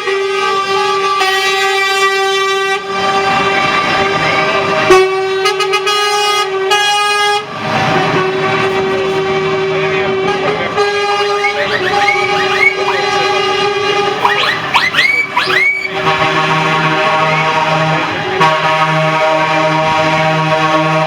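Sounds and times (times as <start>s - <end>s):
truck air horns blowing: 0.0s - 9.4s, 10.2s - 21.0s.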